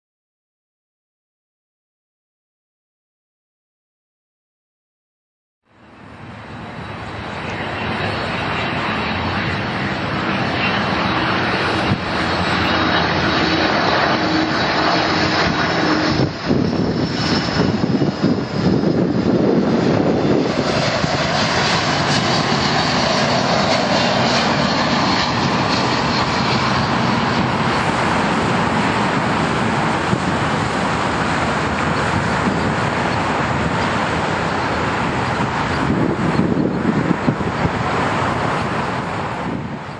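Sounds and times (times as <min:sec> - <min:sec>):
jet engines landing: 0:05.7 - 0:39.9.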